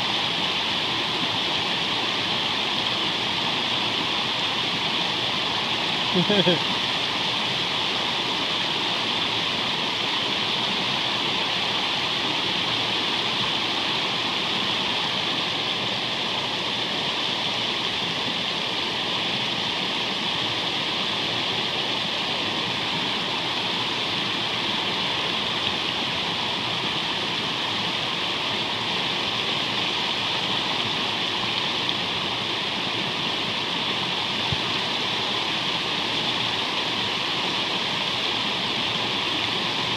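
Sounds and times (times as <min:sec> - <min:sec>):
whitewater rushing over rocks: 0:00.0 - 0:39.9.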